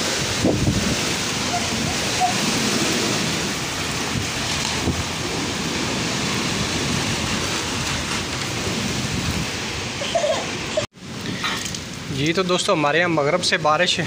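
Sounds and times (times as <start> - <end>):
heavy rain in windstorm: 0.0 - 14.0.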